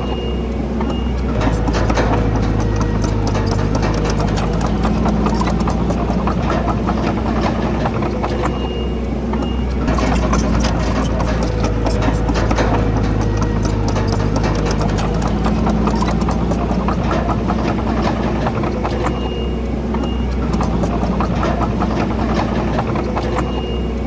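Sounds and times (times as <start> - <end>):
diesel machinery running: 0.0 - 24.0
metal clanks and rattles: 0.0 - 24.0.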